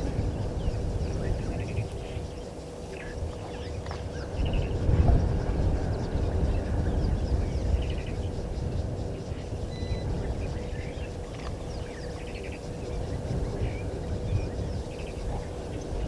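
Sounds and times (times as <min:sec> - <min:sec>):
birds chirping and trilling: 0:00.0 - 0:16.0
low outdoor rumble: 0:00.0 - 0:16.0.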